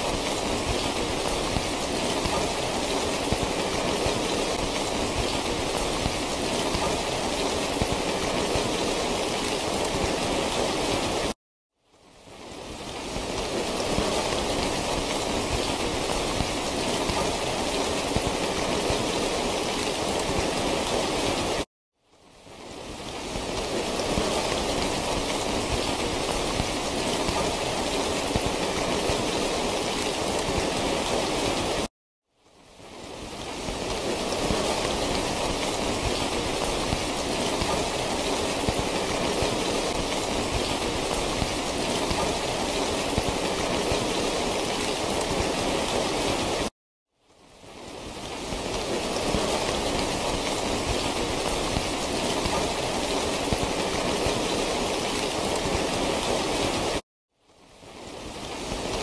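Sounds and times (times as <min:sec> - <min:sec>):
dense rain hiss: 0:00.0 - 0:59.0.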